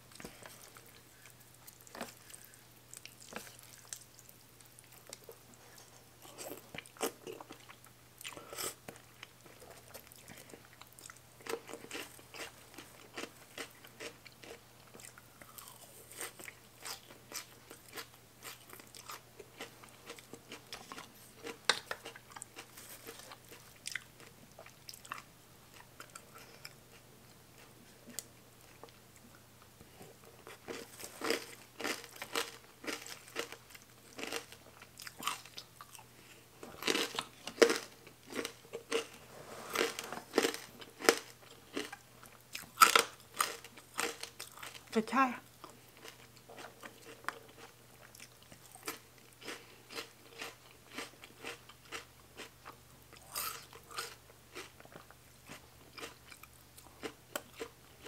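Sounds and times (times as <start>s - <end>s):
person chewing and crunching: 0.1s - 58.0s.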